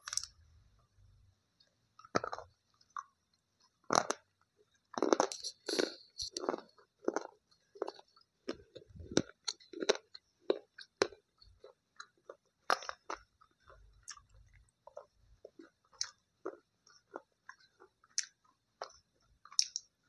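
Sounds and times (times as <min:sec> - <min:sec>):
person crunching and chewing: 0:00.0 - 0:00.3, 0:02.0 - 0:03.2, 0:03.8 - 0:04.3, 0:04.9 - 0:19.9.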